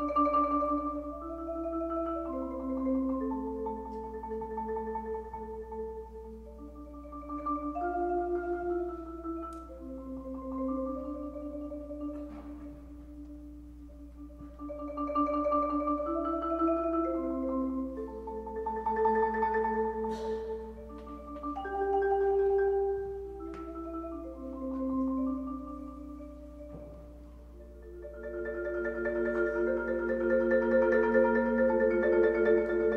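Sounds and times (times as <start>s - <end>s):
marimba rolled chords: 0.0s - 32.9s.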